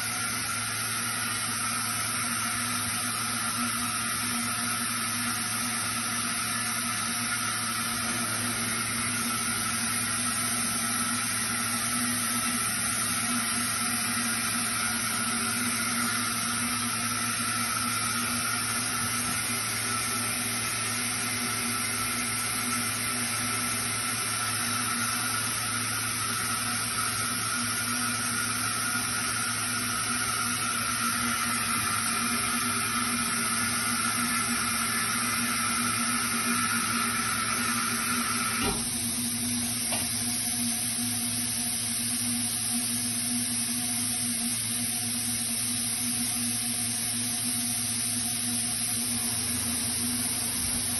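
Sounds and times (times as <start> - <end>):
industrial machinery hum: 0.0 - 50.9.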